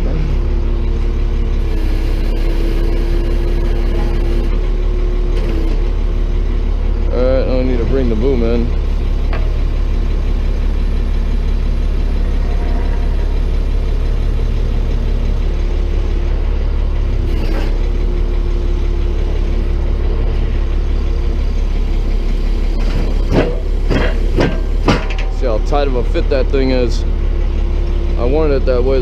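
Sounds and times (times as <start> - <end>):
tow truck engine running: 0.0 - 29.0.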